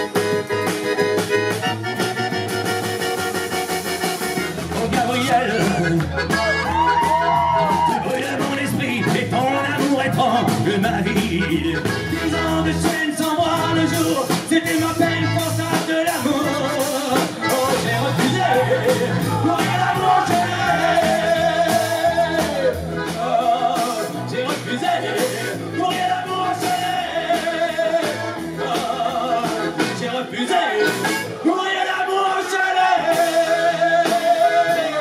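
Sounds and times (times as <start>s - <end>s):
double bass: 0.0s - 31.6s, 32.8s - 35.0s
accordion dance tune: 0.0s - 35.0s
drum kit beat: 0.0s - 35.0s.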